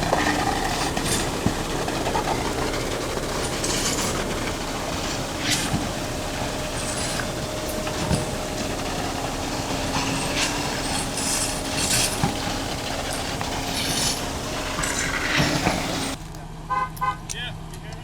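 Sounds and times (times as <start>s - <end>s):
short clinks and squeaks: 0.0s - 16.2s
machinery engine hum: 0.0s - 16.7s.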